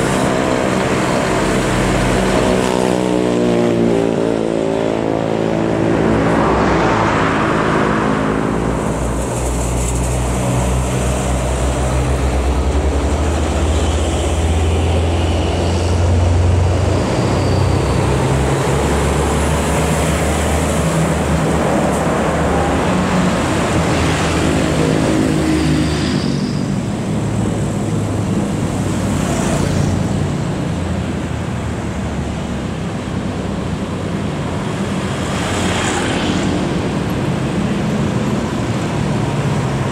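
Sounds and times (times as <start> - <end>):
diesel truck engines droning: 0.0 - 39.9
vehicles passing: 0.0 - 39.9.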